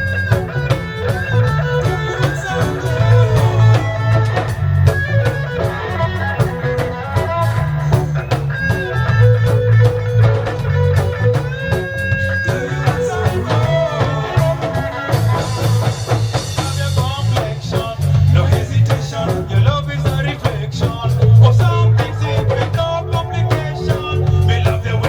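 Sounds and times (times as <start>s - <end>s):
drums: 0.0s - 25.0s
heavy bass line: 0.0s - 25.0s
rhythmic electric guitar: 0.0s - 25.0s.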